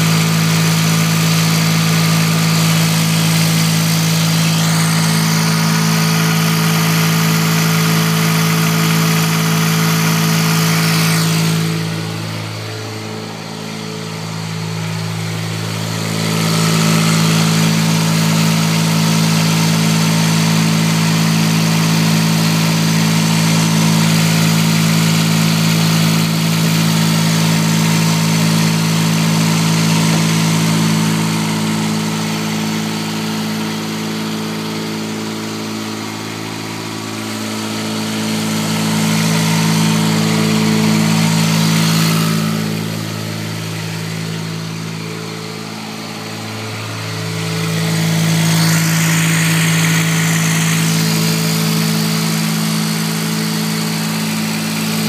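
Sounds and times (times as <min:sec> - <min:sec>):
small diesel excavator engine: 0:00.0 - 0:55.0.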